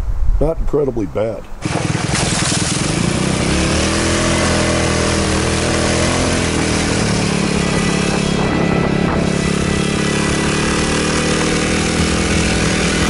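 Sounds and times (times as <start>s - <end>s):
go-kart engine: 1.6s - 13.0s.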